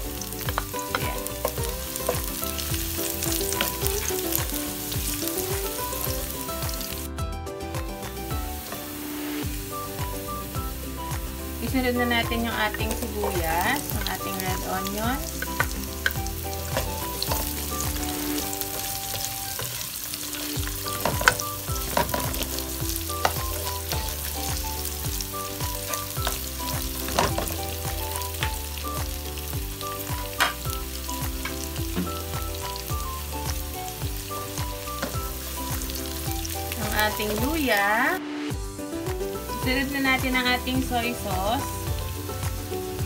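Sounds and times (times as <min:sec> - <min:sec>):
garlic and onion sizzling in oil: 0:00.0 - 0:43.0.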